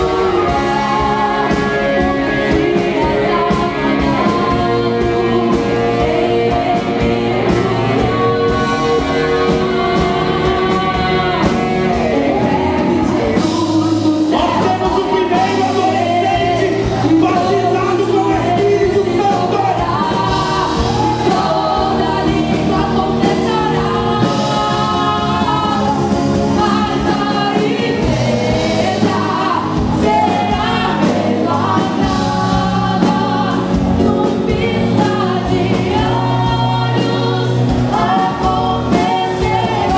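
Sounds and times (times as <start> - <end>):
band playing: 0.0 - 39.9
group singing gospel: 0.0 - 39.9.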